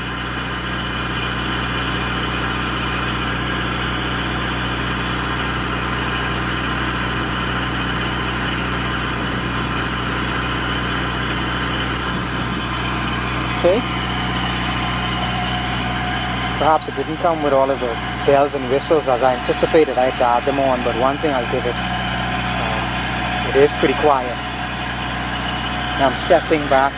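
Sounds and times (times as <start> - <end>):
diesel generator running: 0.0 - 26.9.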